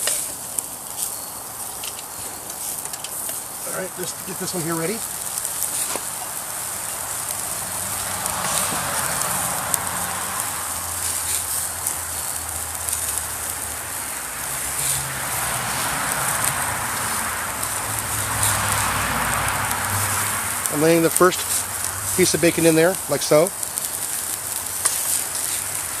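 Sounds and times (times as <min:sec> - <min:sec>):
cooking fire crackling and popping: 0:00.0 - 0:26.0.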